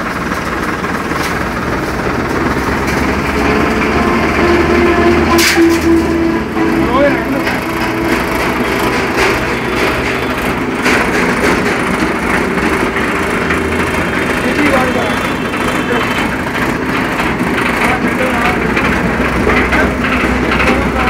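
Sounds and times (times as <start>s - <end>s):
straw blower rattling: 0.0s - 21.0s.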